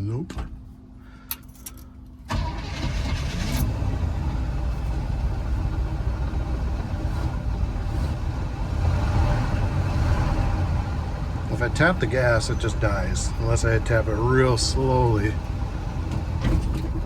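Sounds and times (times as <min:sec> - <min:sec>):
truck engine running: 0:00.6 - 0:17.0.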